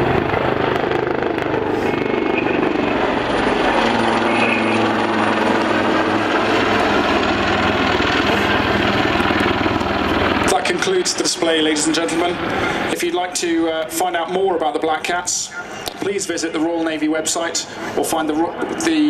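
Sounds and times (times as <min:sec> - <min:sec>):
faint high turbine whine: 0:00.0 - 0:19.0
helicopter rotor and engine noise: 0:00.0 - 0:19.0.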